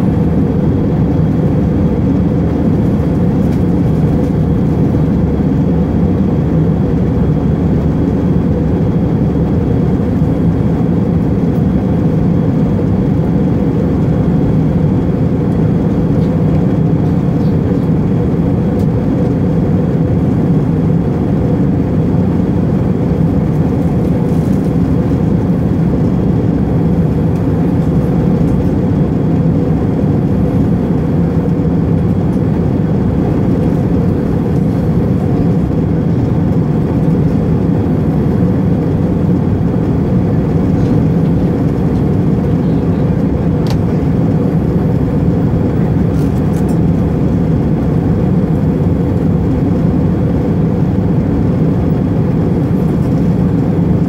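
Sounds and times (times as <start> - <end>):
jet cabin engine drone: 0.0 - 54.0.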